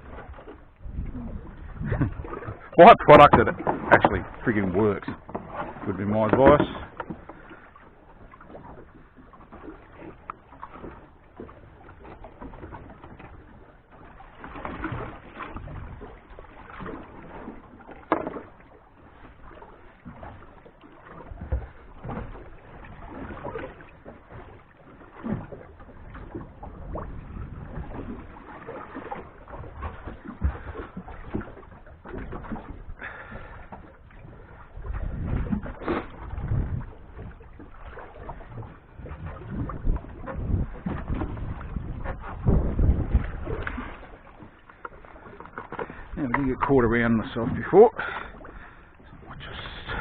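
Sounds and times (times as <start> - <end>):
water rushing around boat: 0.0 - 50.0
wind: 0.0 - 50.0.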